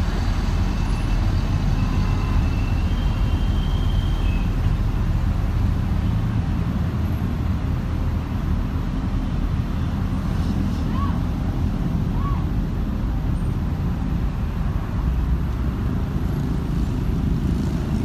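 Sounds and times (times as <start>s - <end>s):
buses and road traffic rumble: 0.0s - 18.0s.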